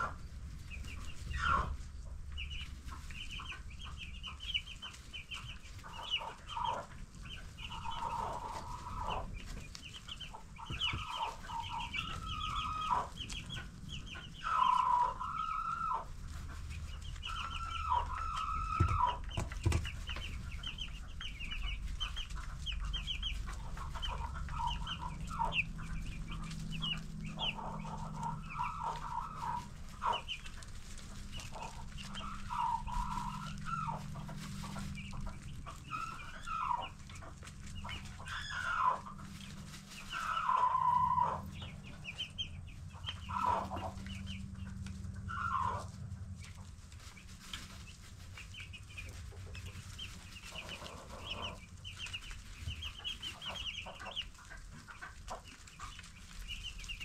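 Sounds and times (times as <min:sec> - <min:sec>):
longer lower chick calls: 0:00.0 - 0:46.7, 0:48.3 - 0:57.0
chicks peeping: 0:00.0 - 0:57.0.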